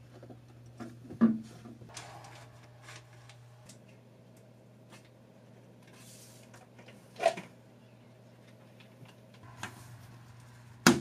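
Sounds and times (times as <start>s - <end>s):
steady low hum: 0.0s - 6.5s, 7.6s - 11.0s.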